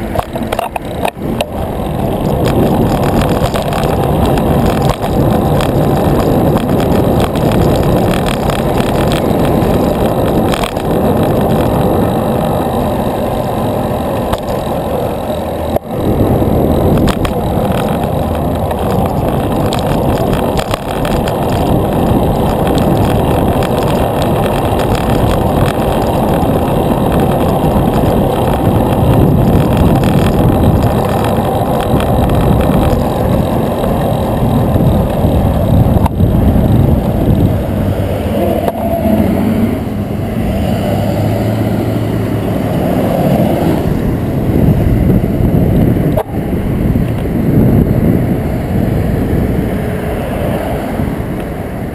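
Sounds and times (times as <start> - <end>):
bicycle riding rushing noise: 0.0 - 51.9
motor traffic: 0.0 - 51.9.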